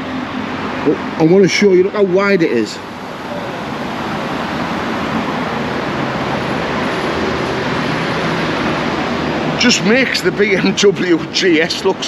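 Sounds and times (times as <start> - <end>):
rushing vehicle noise: 0.0 - 12.0.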